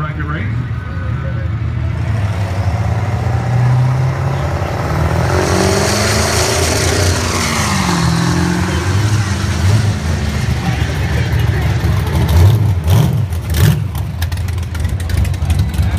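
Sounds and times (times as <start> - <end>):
engines accelerating hard: 0.0 - 15.9.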